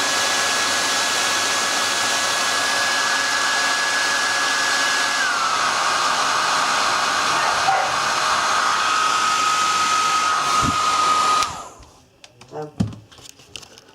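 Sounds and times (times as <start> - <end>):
hair dryer running: 0.0 - 11.9.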